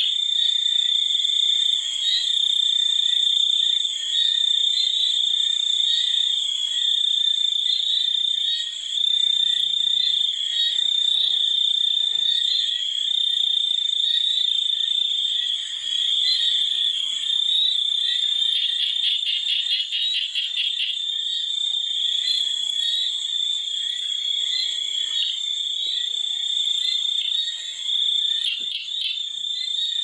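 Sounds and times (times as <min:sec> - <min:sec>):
frogs and insects calling: 0:00.0 - 0:30.0.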